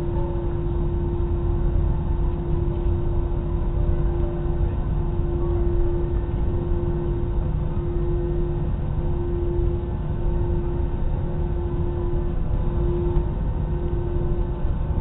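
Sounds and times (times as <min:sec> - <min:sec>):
airliner cabin engine rumble: 0:00.0 - 0:15.0
steady droning tone: 0:00.0 - 0:15.0.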